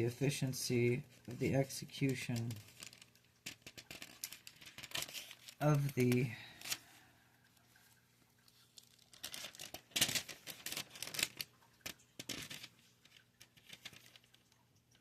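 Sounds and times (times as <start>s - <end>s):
rustling and crinkling handling noise: 0.0s - 15.0s.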